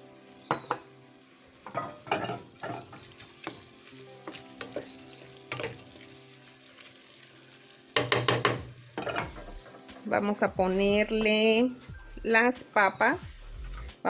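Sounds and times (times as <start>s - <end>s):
sauce sizzling: 0.0s - 13.6s.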